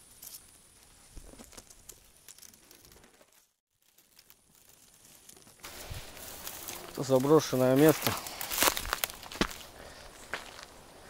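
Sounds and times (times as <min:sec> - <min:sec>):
rustling of dry grass: 0:00.0 - 0:11.0.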